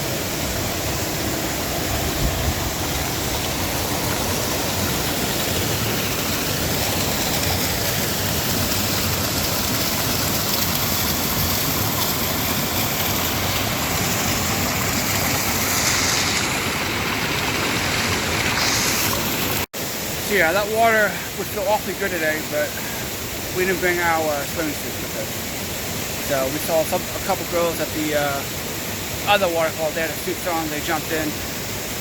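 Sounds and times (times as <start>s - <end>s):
waterfall rushing into pool: 0.0s - 32.0s.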